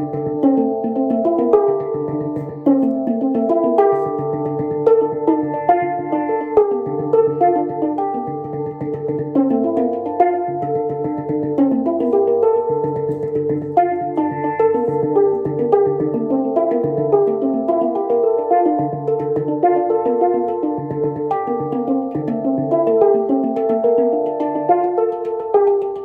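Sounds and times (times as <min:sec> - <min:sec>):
handpan melody: 0:00.0 - 0:26.0.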